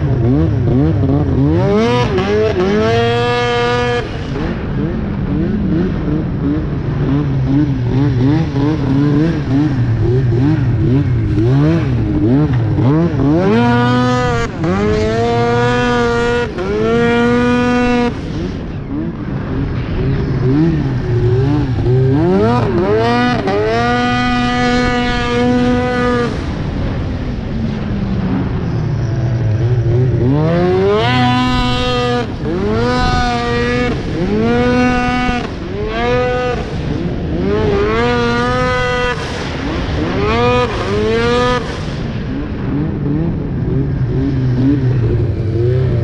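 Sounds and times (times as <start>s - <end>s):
snowmobile engine revving: 0.0s - 46.0s.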